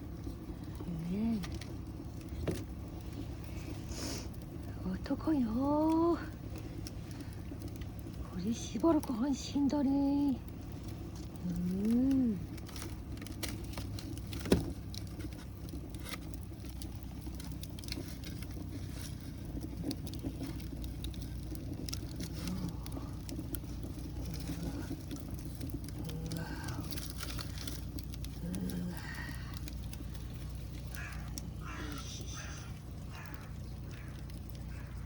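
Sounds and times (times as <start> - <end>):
firewood crackling and popping: 0.0 - 35.0
stove low rumble: 0.0 - 35.0.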